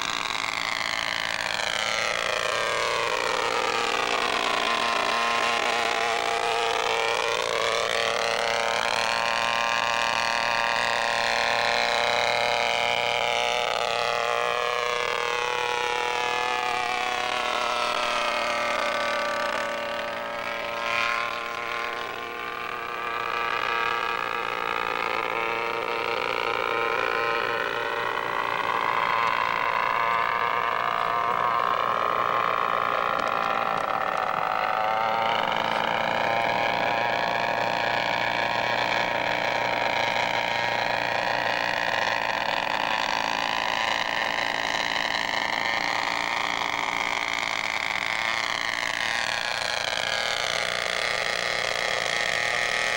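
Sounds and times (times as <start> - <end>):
model aircraft engine: 0.0 - 52.9.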